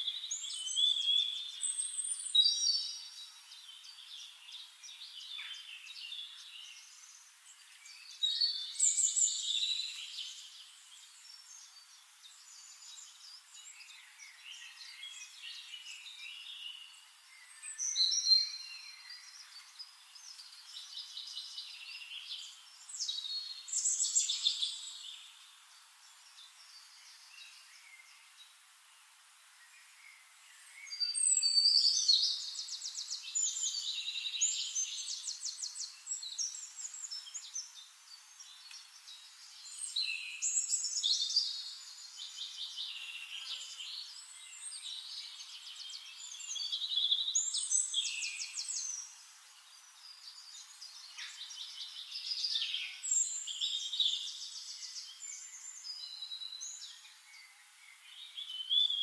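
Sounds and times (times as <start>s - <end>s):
birds singing trills: 0.0s - 59.0s.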